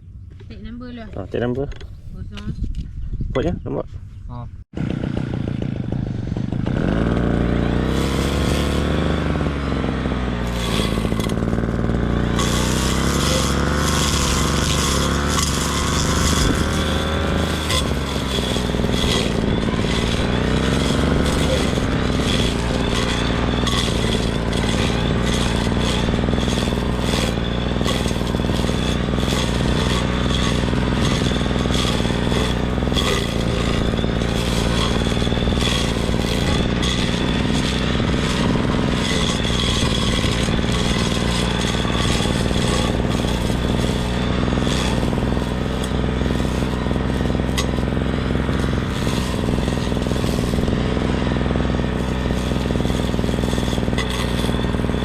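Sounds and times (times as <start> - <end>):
grass cutter engine running: 4.8 - 55.0
rattling and scraping of cutting: 4.8 - 55.0.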